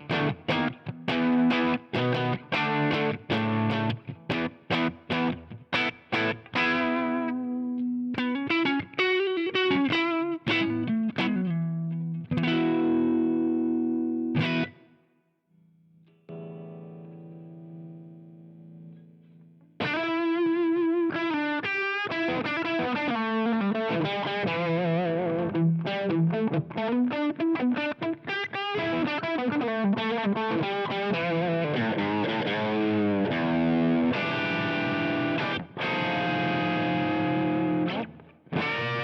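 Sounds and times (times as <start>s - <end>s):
distorted electric guitar: 0.0s - 14.9s, 19.8s - 39.0s.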